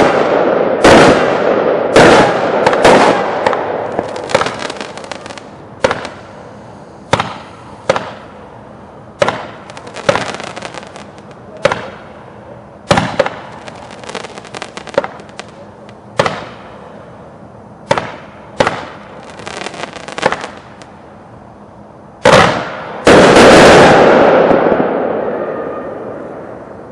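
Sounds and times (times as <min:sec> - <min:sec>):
firework bangs: 0:00.0 - 0:08.4, 0:09.2 - 0:17.0, 0:17.8 - 0:21.0, 0:22.2 - 0:26.6
firework crackling: 0:00.0 - 0:17.1, 0:17.9 - 0:21.0, 0:22.2 - 0:25.6.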